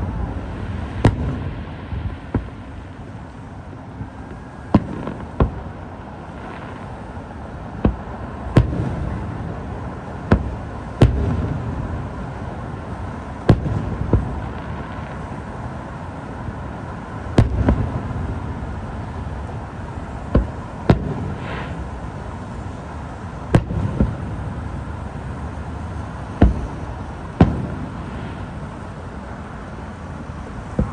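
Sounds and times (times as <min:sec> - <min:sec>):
fireworks bangs: 0:00.0 - 0:30.9
fireworks hiss: 0:00.0 - 0:30.9.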